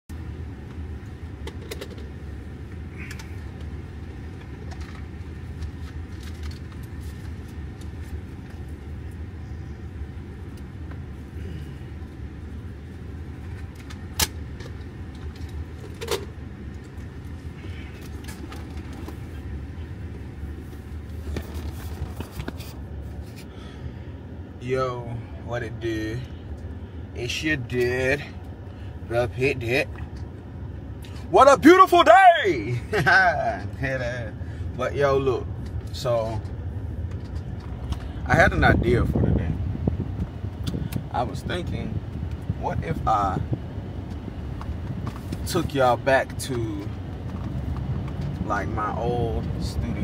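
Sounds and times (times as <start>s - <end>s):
car engine rumbling: 0.1s - 50.0s.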